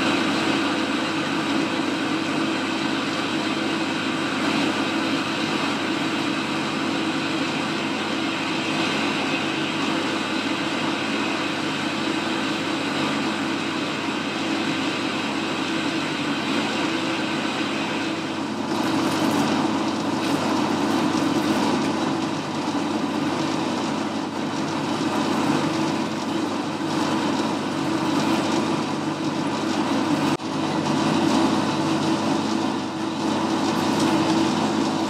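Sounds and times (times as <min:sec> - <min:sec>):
lathe cutting metal: 0:00.0 - 0:35.0.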